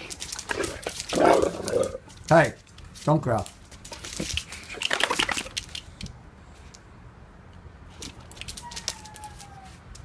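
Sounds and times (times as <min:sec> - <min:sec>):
dogs scuffling: 0:00.0 - 0:06.1, 0:07.9 - 0:10.0
claws clicking on concrete: 0:00.0 - 0:06.9, 0:07.9 - 0:10.0.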